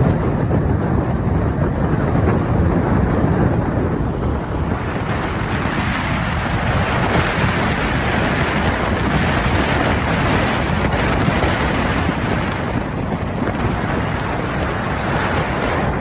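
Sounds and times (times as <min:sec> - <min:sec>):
wind and road noise: 0:00.0 - 0:16.0
wind buffeting microphone: 0:00.0 - 0:16.0.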